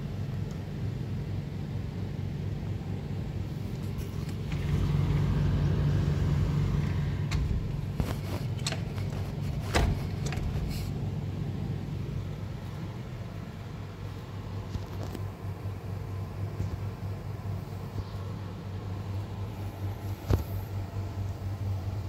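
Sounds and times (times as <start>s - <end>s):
low rumble of city traffic: 0.0s - 22.0s.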